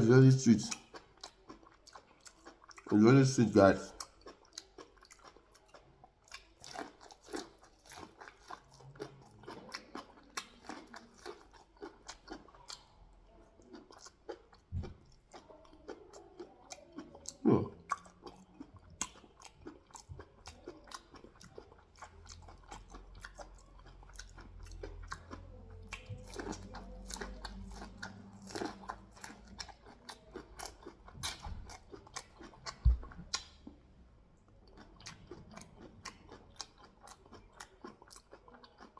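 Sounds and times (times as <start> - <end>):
crunchy chewing: 0.7 - 33.8, 34.4 - 38.9
faint low hum: 7.7 - 38.9.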